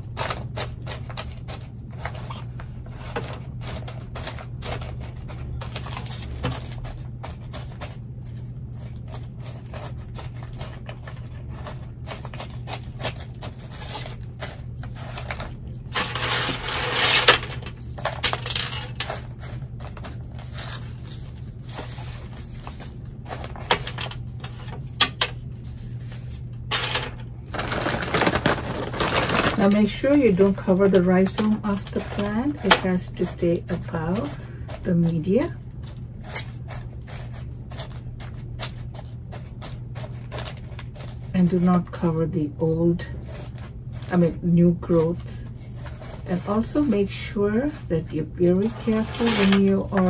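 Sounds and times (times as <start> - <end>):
potting mix crunching and rustling: 0.0 - 50.0.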